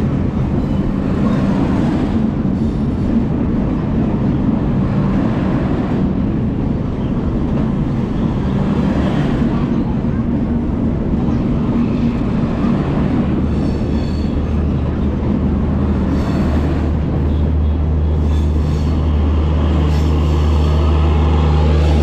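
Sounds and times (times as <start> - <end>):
locomotive engine drone: 0.0 - 22.0.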